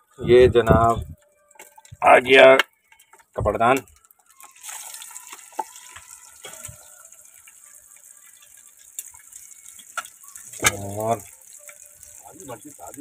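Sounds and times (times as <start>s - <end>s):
fish frying in oil: 1.5s - 13.0s.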